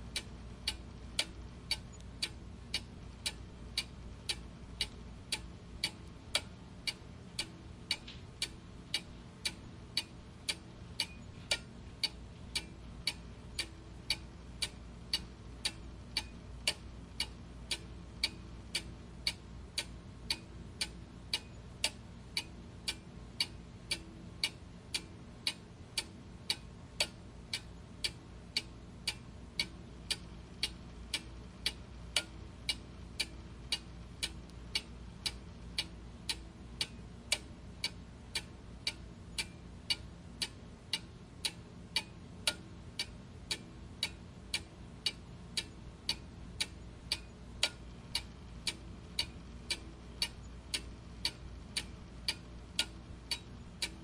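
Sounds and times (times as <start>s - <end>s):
faint low hum: 0.0s - 54.0s
clock ticking: 0.1s - 54.0s.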